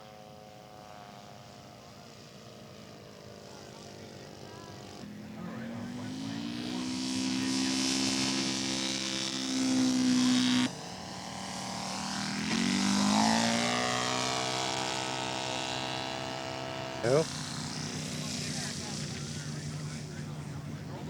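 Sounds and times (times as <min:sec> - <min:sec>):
model airplane propeller engine: 0:00.0 - 0:21.0.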